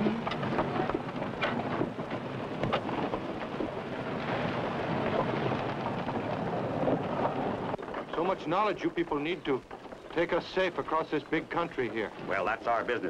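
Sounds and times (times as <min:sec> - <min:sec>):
wagon wheels rumbling: 0:00.0 - 0:13.0.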